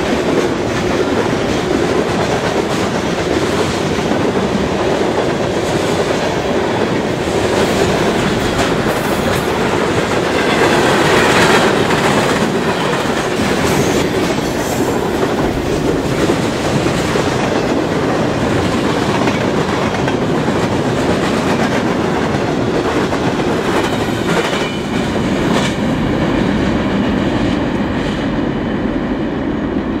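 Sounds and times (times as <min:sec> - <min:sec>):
clickety-clack over rail joints: 0:00.0 - 0:28.2
freight train wheels rumbling: 0:00.0 - 0:30.0.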